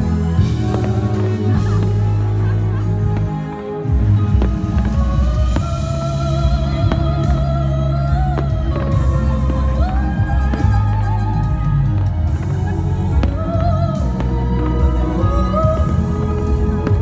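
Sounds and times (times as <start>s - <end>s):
song with sung melody and heavy bass: 0.0s - 17.0s.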